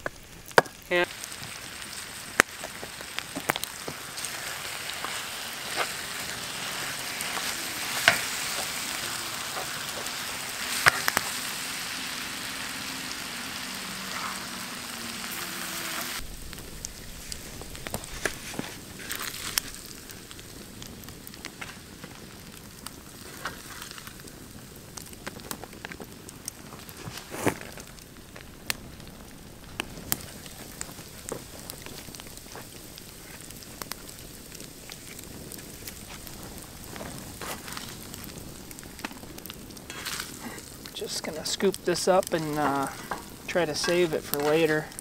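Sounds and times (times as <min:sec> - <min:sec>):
food sizzling in skillet: 0:00.0 - 0:24.6, 0:26.8 - 0:45.0
campfire crackling and popping: 0:00.0 - 0:45.0.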